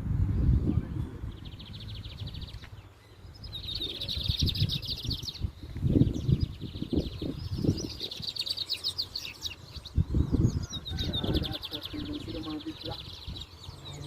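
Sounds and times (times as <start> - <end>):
songbirds singing fast trills: 0.0 - 14.0.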